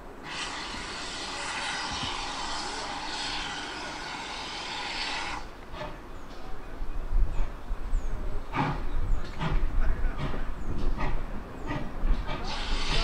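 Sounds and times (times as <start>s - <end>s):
steam hissing: 0.0s - 6.0s, 8.5s - 13.0s.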